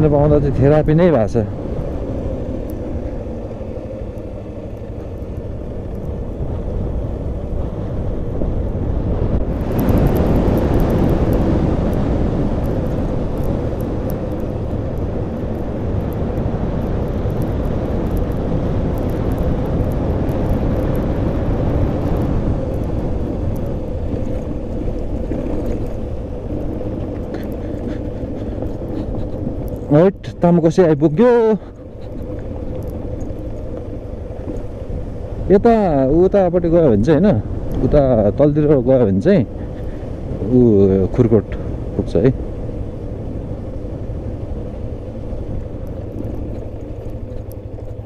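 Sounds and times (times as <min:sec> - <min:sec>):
motorcycle engine running: 0:00.0 - 0:48.0
wind and road noise: 0:00.0 - 0:48.0.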